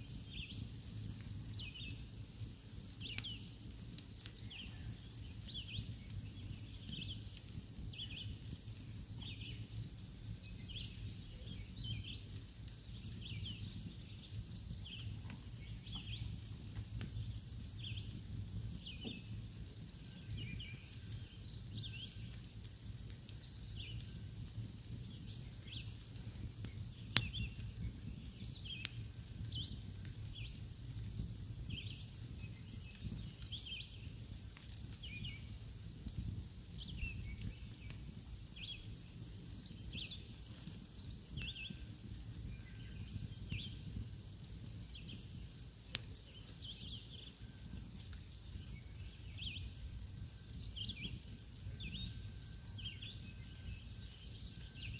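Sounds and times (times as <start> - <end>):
campfire popping: 0.0 - 54.9
small birds chirping: 0.0 - 54.9.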